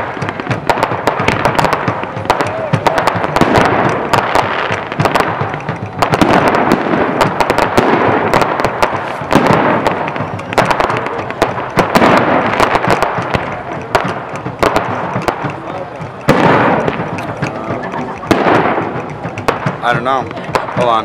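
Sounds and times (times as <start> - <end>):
fireworks pops and bangs: 0.0 - 21.0.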